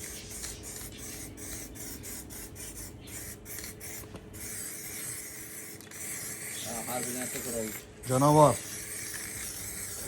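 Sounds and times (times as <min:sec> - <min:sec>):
spray paint can hissing: 0:00.0 - 0:10.0.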